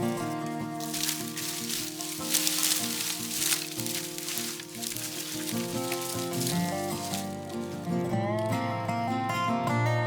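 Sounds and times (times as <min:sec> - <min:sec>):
background music with melodic notes: 0:00.0 - 0:10.0.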